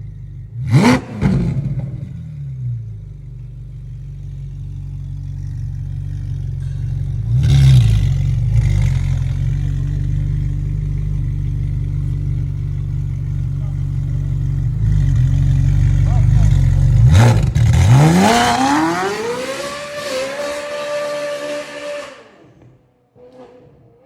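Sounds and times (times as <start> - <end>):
sports car engine idling and revving: 0.0 - 24.0.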